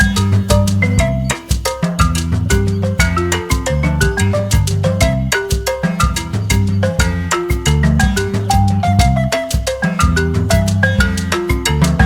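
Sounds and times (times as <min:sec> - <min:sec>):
upbeat mallet percussion music: 0:00.0 - 0:12.0.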